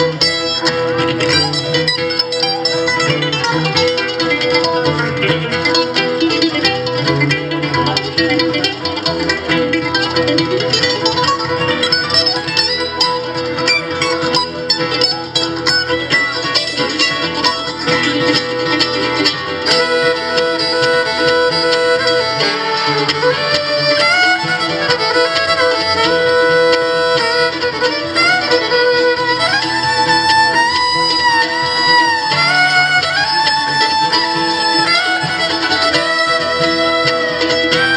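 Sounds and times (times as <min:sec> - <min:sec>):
acoustic string band playing: 0:00.0 - 0:37.9
fiddle sliding bowed notes: 0:00.0 - 0:37.9.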